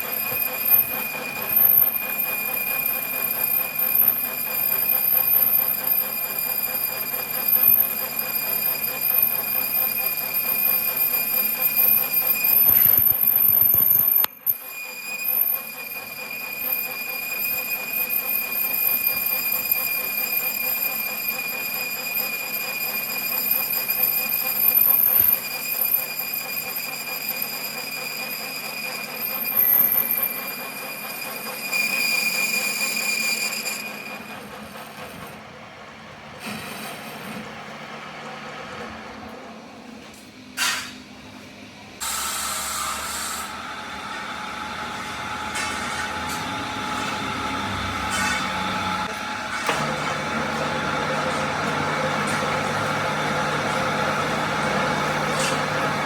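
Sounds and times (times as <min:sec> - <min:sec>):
metal cutting squeal: 0:00.0 - 0:35.5, 0:36.4 - 0:37.4, 0:44.9 - 0:56.0
machine running: 0:00.0 - 0:40.0, 0:42.0 - 0:56.0.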